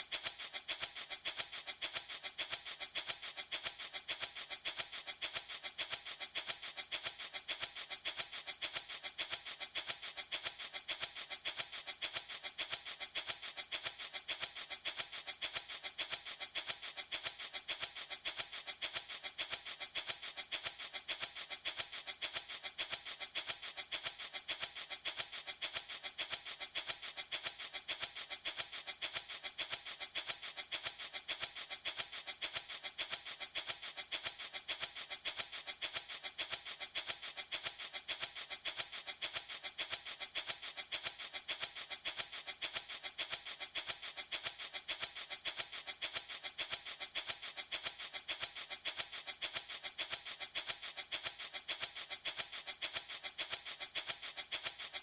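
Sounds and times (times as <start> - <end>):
wooden baby rattle shaken: 0.0 - 55.0.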